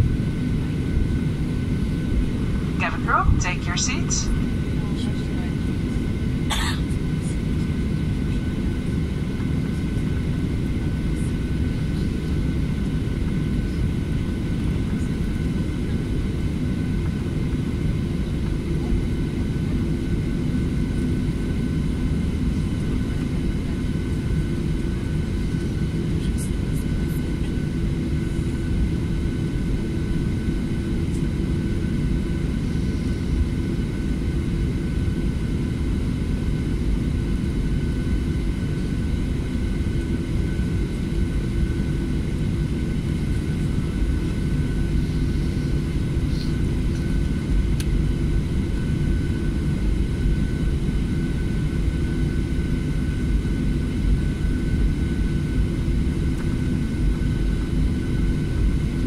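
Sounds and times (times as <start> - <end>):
jet engine rumble and whine: 0.0 - 59.0.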